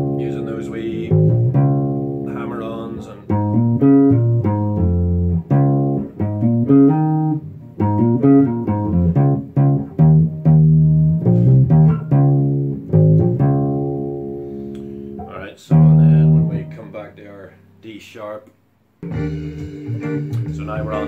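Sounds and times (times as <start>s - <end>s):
plucked bass guitar riff: 0.0s - 17.8s, 19.0s - 21.0s.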